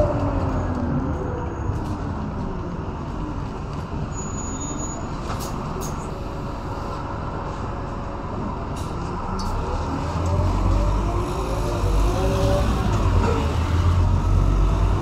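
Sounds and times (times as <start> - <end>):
bus diesel engine running: 0.0 - 15.0
road and tyre noise: 0.0 - 15.0.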